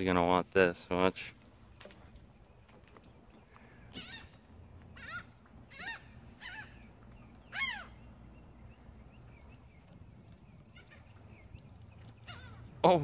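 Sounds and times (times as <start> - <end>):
seagulls calling: 1.6 - 13.0.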